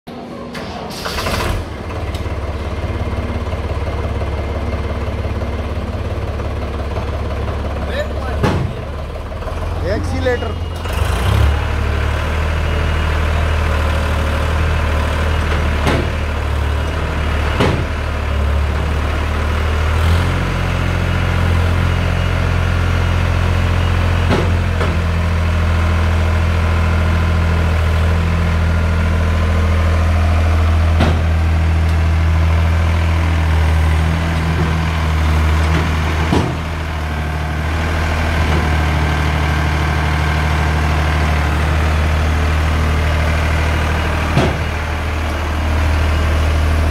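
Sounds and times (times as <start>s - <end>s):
tractor diesel engine running: 0.5s - 46.9s.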